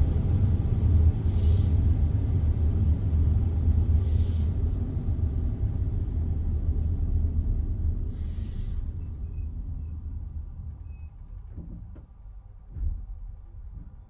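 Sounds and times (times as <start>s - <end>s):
low railway rumble: 0.0s - 14.0s.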